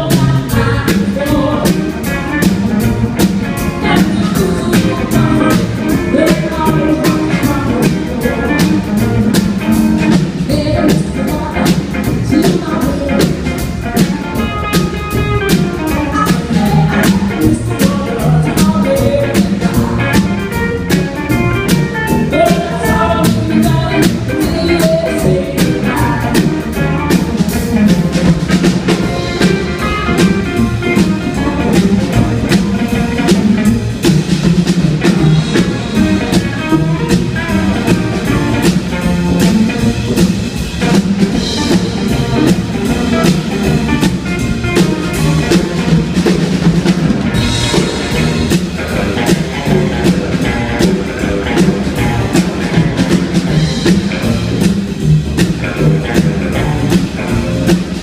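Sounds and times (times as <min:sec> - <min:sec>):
drum kit steady beat: 0:00.0 - 0:58.0
electric guitar: 0:00.0 - 0:58.0
upright double bass: 0:00.0 - 0:58.0.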